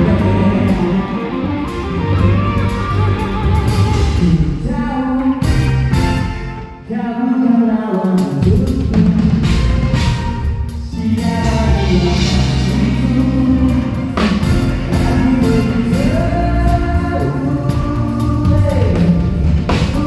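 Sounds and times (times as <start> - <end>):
live band music: 0.0 - 7.2, 8.0 - 20.0
person singing: 0.0 - 9.5, 10.8 - 20.0.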